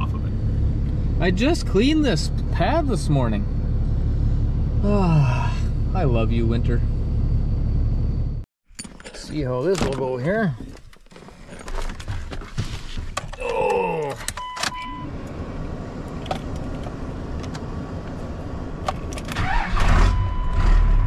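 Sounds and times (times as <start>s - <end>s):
truck engine cranking and idling: 0.0s - 9.7s, 13.4s - 21.0s.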